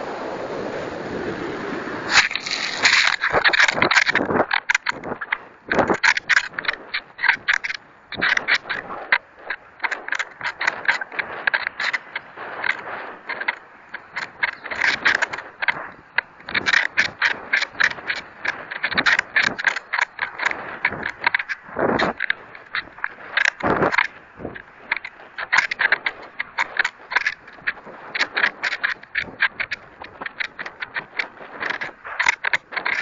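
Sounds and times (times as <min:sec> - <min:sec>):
rapid clicking and rattling: 0:02.1 - 0:33.0.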